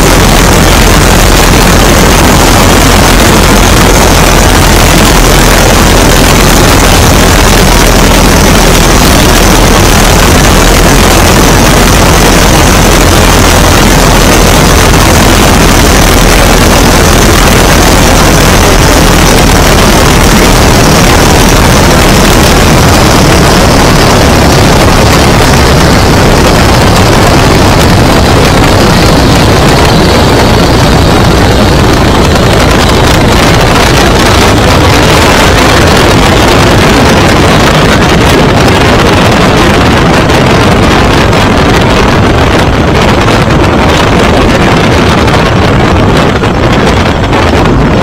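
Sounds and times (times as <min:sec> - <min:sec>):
propeller plane engine: 0:00.0 - 0:48.0
wind rush on microphone: 0:00.0 - 0:48.0.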